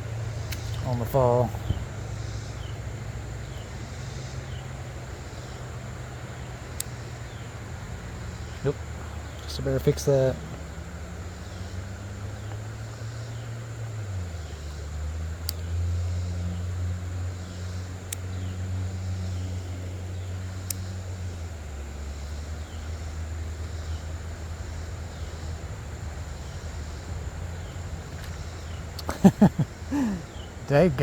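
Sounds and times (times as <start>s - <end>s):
crickets chirping: 0.0s - 31.0s
faint ticks: 0.0s - 31.0s
low engine drone: 0.0s - 31.0s.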